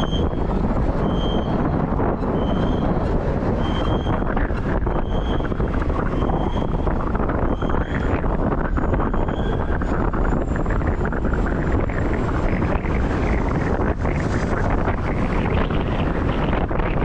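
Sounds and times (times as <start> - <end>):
road and tyre noise: 0.0 - 17.0
wind buffeting microphone: 0.0 - 17.0.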